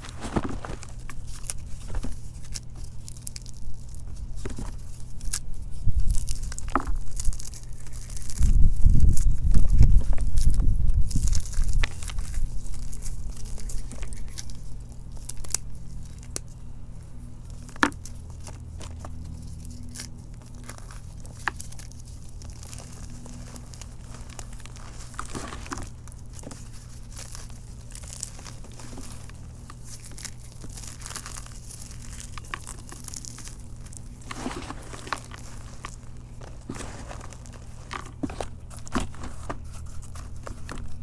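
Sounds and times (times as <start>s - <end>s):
chalk crunching and crackling: 0.0s - 41.0s
faint low hum: 0.0s - 41.0s.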